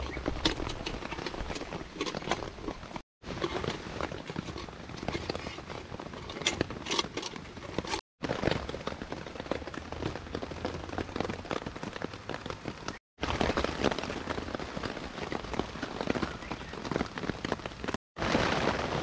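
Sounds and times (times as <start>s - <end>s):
rain falling on a tarp: 0.0s - 19.0s.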